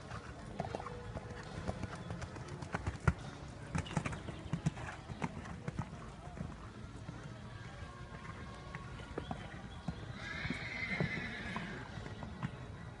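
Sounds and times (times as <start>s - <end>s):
horse hoofbeats on sand: 0.0s - 12.7s.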